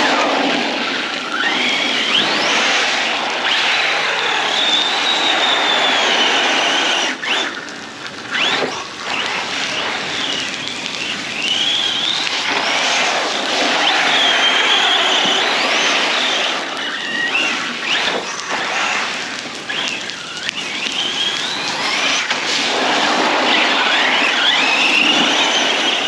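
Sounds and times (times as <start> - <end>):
driveline and wet ground noise: 0.0 - 26.0
electric motor whining: 1.2 - 7.7, 8.3 - 26.0.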